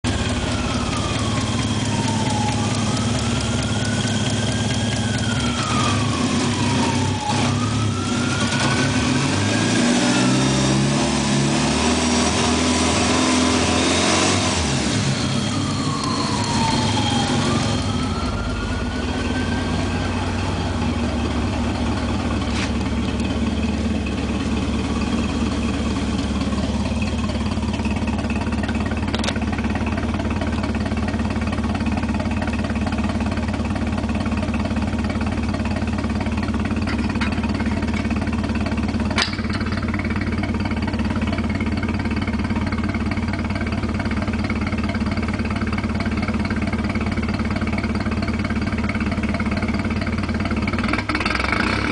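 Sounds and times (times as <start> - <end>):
car engine idling and revving: 0.0 - 51.9.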